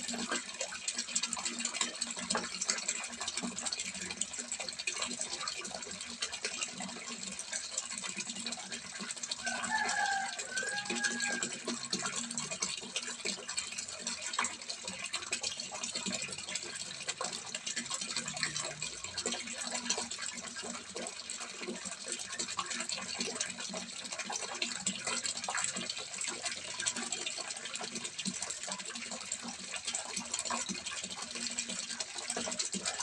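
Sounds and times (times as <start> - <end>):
water splashing into pond: 0.0 - 33.0.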